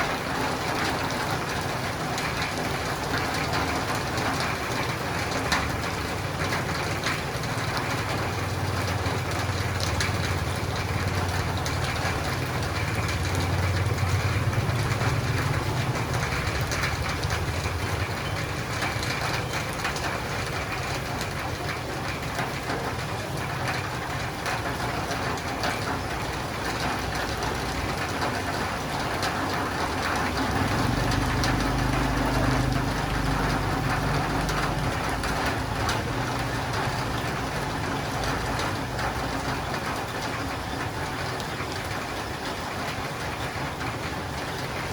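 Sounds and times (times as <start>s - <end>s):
rain on a roof: 0.0s - 44.9s.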